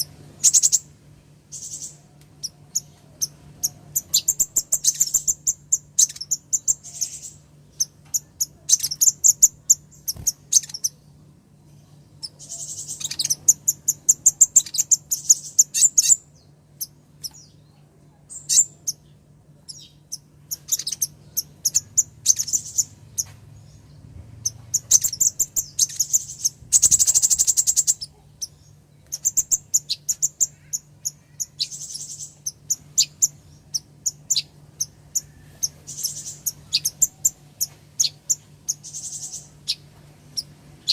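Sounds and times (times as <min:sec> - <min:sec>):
faint low hum: 0:00.0 - 0:40.9
sunbird chirping: 0:00.0 - 0:40.9.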